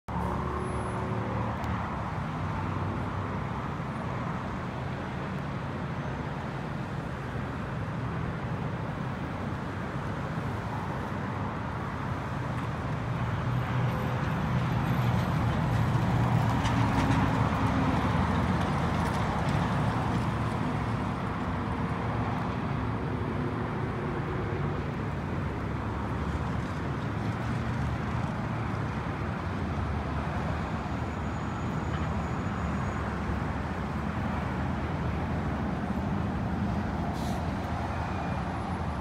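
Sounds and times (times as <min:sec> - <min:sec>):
passing road traffic: 0:00.1 - 0:39.0.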